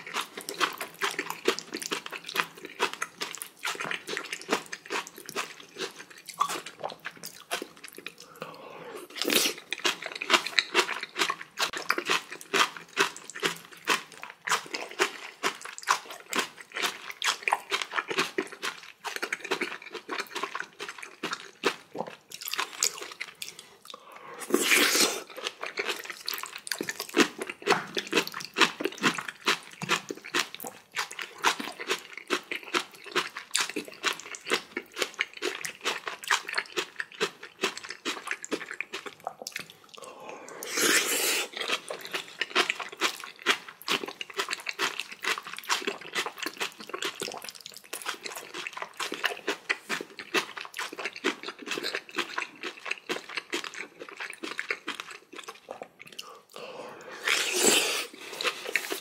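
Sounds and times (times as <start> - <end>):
crunching and chewing food: 0.0 - 59.0.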